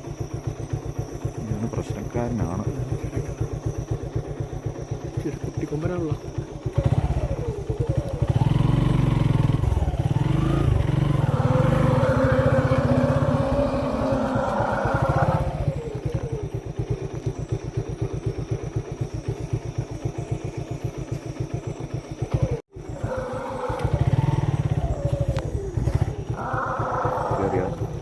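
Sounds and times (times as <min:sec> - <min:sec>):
vehicle engine revving and idling: 0:00.0 - 0:28.0.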